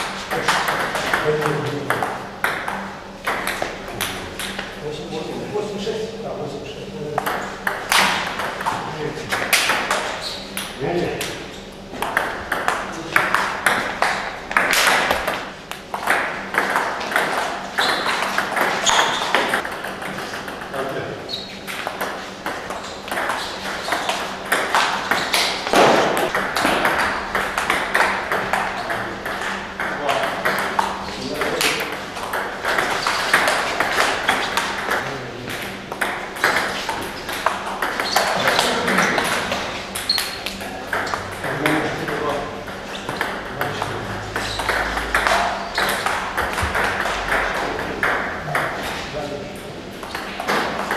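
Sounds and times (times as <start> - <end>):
distant table tennis rallies: 0.0 - 5.7, 7.0 - 50.9.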